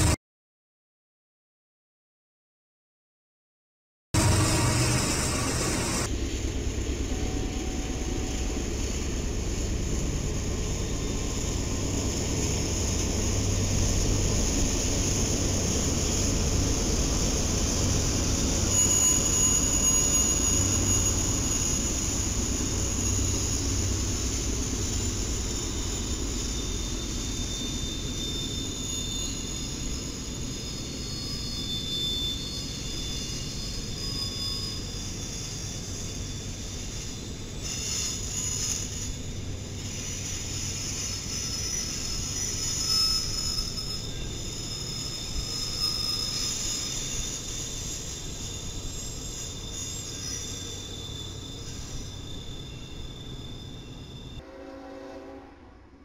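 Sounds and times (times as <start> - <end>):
high-pitched wheel squeals: 4.2 - 6.1, 7.0 - 55.4
train wheels rumbling on track: 4.2 - 55.4.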